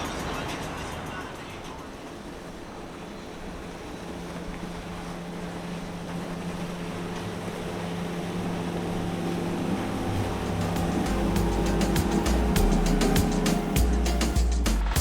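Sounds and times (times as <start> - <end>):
motorboat engine humming: 0.0 - 15.0.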